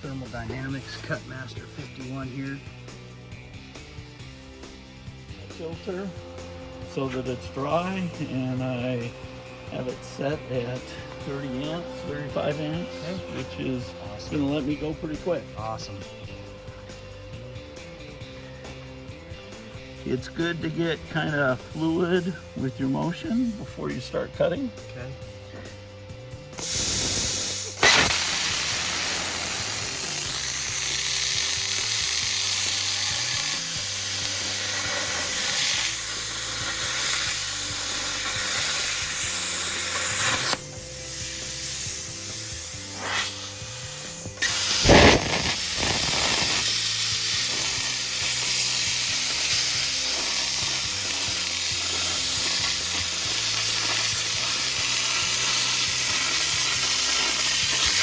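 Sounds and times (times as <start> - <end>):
plasma cutter hissing: 0.0 - 25.9, 26.5 - 58.0.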